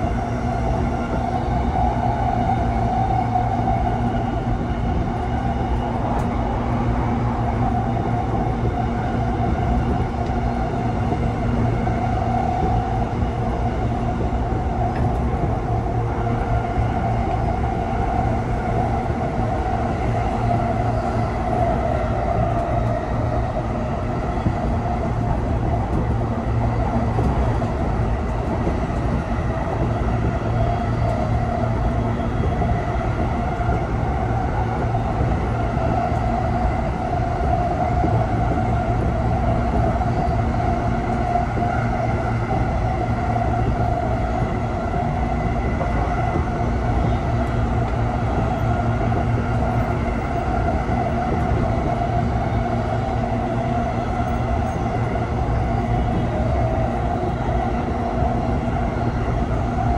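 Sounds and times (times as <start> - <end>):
electric train running noise: 0.0 - 59.9.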